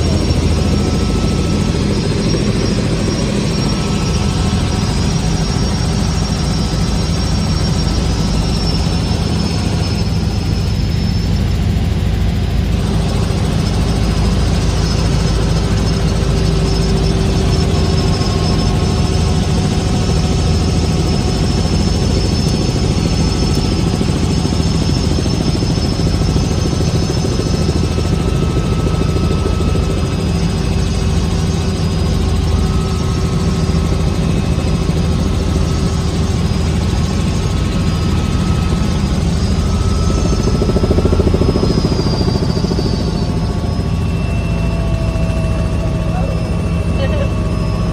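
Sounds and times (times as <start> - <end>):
helicopter engine and rotor drone: 0.0 - 47.9
steady whining tones: 0.0 - 47.9.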